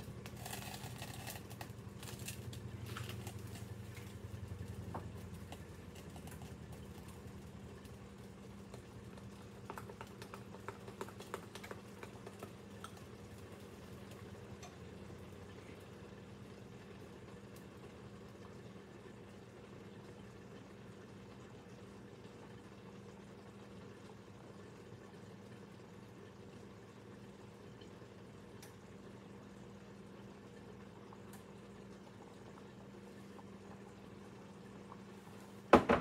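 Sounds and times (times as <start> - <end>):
cakes frying in oil: 0.0 - 36.0
steady low hum: 0.0 - 36.0.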